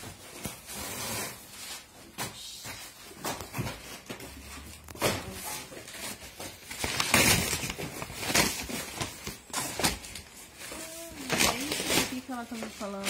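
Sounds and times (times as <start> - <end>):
cardboard and plastic wrap tearing: 0.0 - 13.0.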